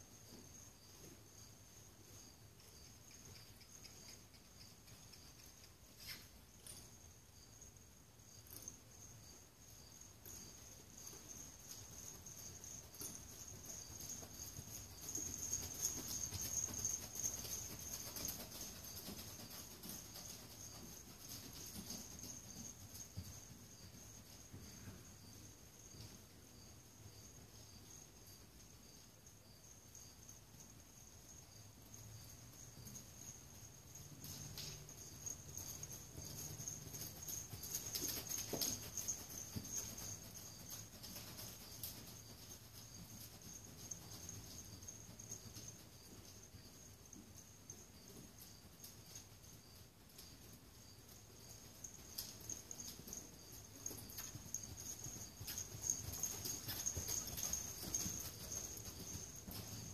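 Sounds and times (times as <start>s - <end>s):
horse hoofbeats on dirt: 9.8s - 30.7s, 31.3s - 59.9s.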